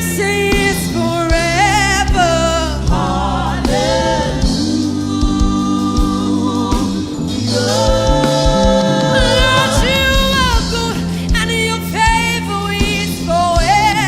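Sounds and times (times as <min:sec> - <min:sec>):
gospel singing with keyboard: 0:00.0 - 0:14.0.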